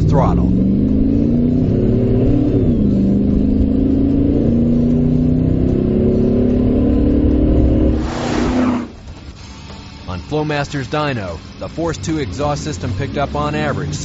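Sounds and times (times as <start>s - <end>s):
truck engine revving: 0.0s - 9.4s, 10.2s - 14.0s.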